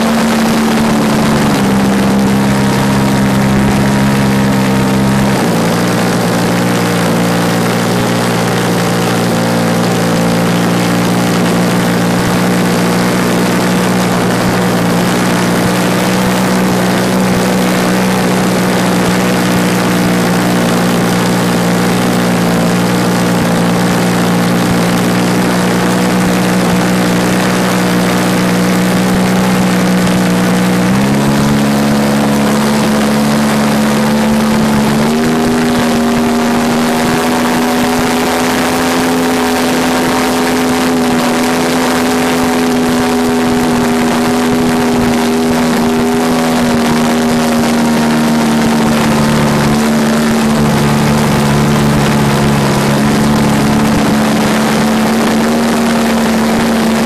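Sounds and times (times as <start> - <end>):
model plane engine and propeller: 0.0 - 57.0
steady rushing noise: 0.0 - 57.0.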